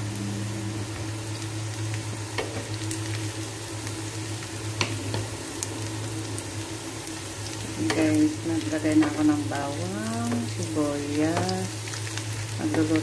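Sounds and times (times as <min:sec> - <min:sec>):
garlic and onion sizzling in oil: 0:00.0 - 0:13.0
steady low hum: 0:00.0 - 0:13.0.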